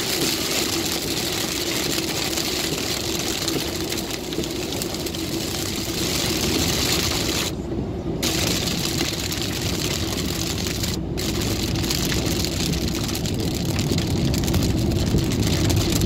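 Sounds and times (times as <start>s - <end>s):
engine and road drone: 0.0s - 16.0s
rain on car: 0.0s - 16.0s
tyres hissing on wet road: 0.0s - 16.0s.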